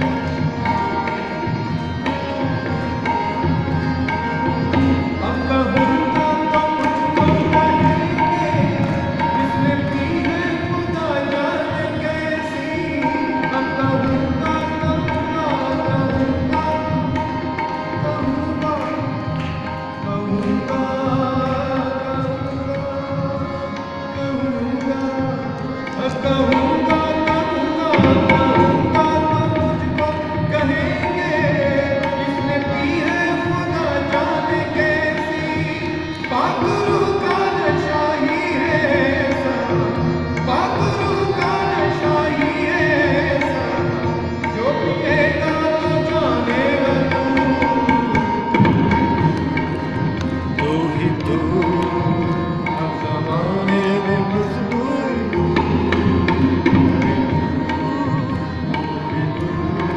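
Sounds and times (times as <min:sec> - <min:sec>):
harmonium: 0:00.0 - 0:59.9
tabla drumming: 0:00.0 - 0:59.9
man singing: 0:05.1 - 0:59.9.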